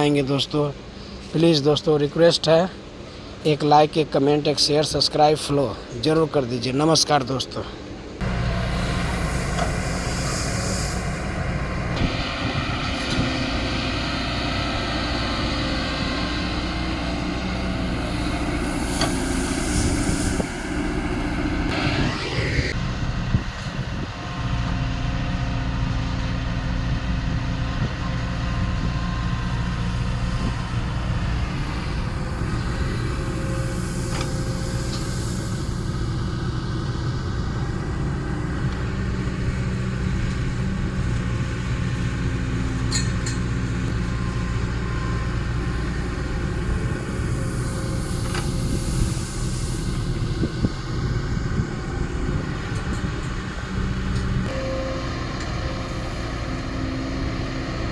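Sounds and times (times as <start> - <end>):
excavator diesel engine running: 8.0 - 57.9.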